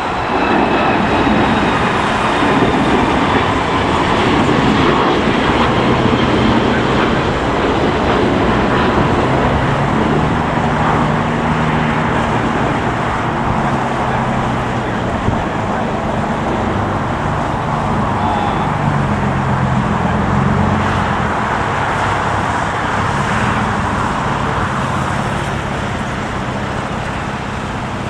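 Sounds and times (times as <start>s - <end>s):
airliner jet engine taxiing: 0.0s - 28.0s.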